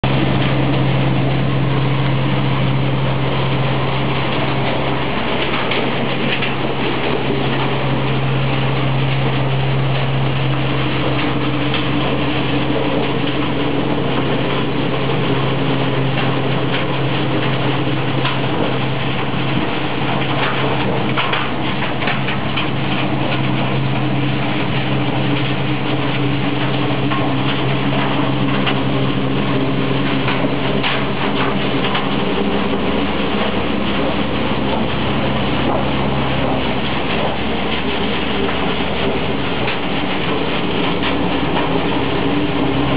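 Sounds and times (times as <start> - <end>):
machine hum: 0.0 - 42.9
rush of air and hay: 0.1 - 42.9.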